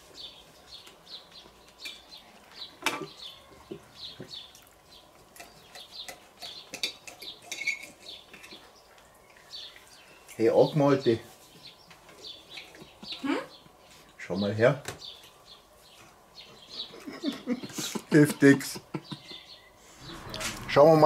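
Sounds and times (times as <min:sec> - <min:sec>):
small songbirds chirping: 0:00.0 - 0:21.0.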